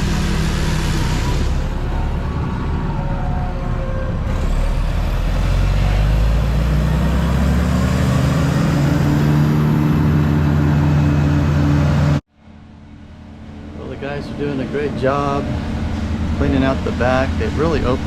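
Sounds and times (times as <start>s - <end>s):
large engine running: 0.0s - 18.0s.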